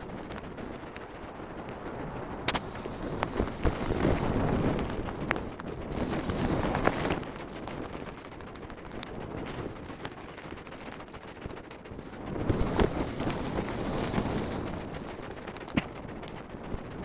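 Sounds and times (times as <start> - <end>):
bike tyres rumbling on trail: 1.5 - 17.0
bike rattling: 2.4 - 16.8.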